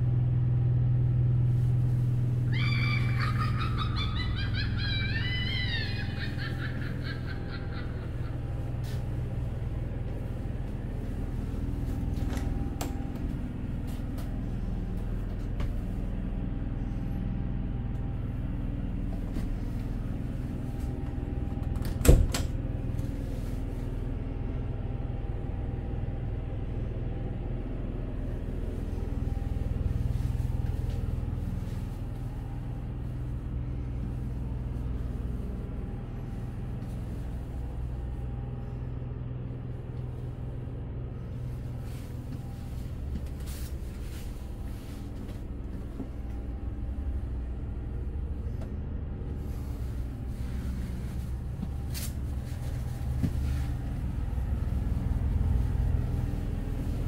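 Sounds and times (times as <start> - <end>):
machinery humming: 0.0 - 57.0.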